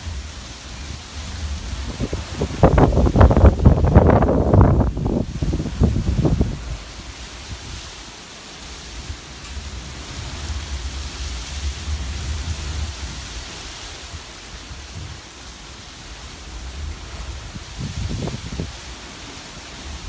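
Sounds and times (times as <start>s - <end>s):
heavy rain hissing: 0.0s - 20.0s
wind buffeting microphone: 0.0s - 20.0s.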